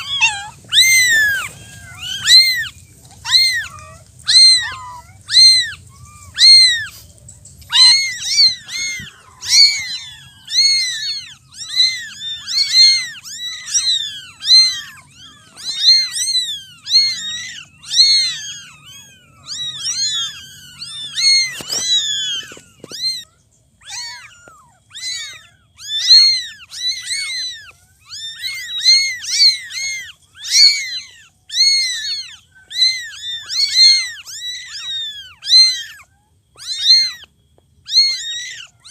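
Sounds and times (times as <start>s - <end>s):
cats meowing: 0.0s - 38.9s.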